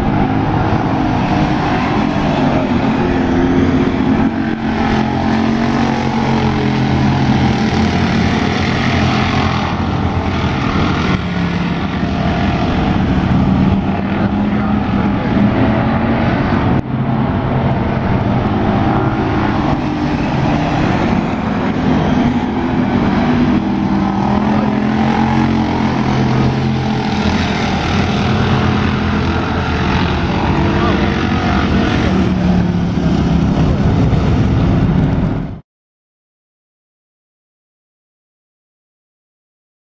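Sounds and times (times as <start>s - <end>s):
race car engines droning: 0.0s - 35.6s.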